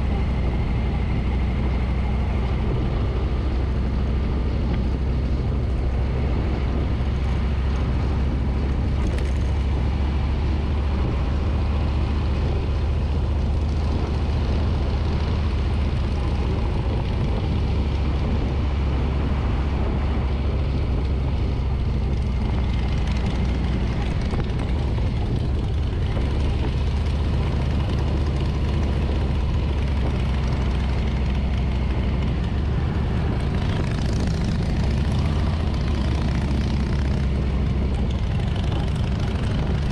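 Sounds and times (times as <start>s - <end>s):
motorcycle engine running: 0.0s - 39.9s
road noise: 0.0s - 39.9s
wind rush: 0.0s - 39.9s.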